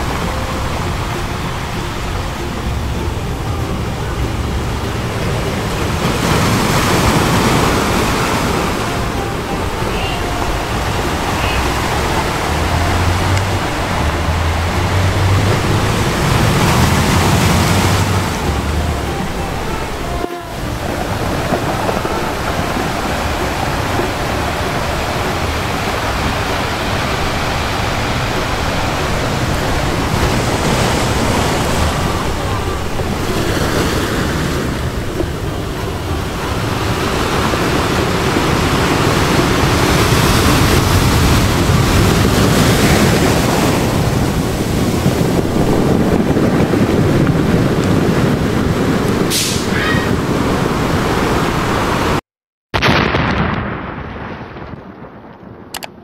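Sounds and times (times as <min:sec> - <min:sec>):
sea waves rushing: 0:00.0 - 0:52.2
wind: 0:00.0 - 0:56.0.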